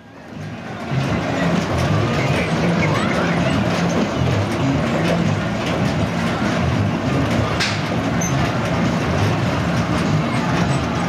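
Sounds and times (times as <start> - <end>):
fairground ride rumble and clatter: 0.0 - 11.0.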